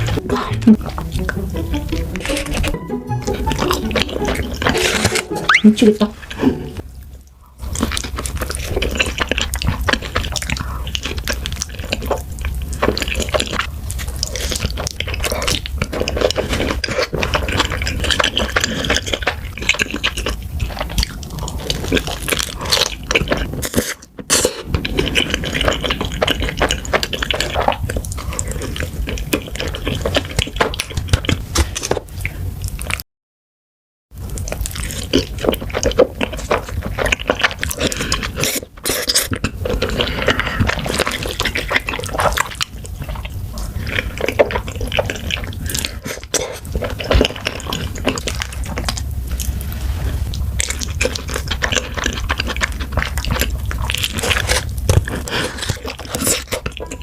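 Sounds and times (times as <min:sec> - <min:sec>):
wet chewing and slurping: 0:00.0 - 0:33.0, 0:34.2 - 0:57.0.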